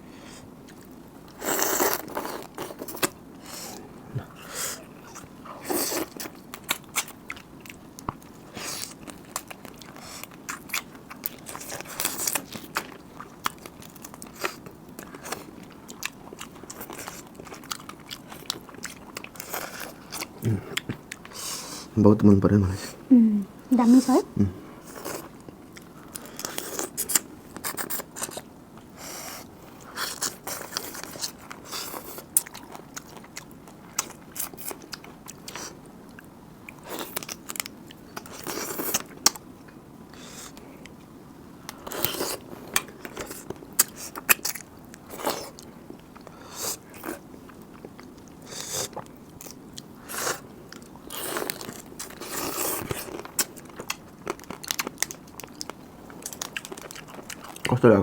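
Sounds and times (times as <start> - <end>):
person chewing and crunching: 0.6 - 21.9, 24.4 - 28.5, 29.1 - 41.0, 41.6 - 57.8.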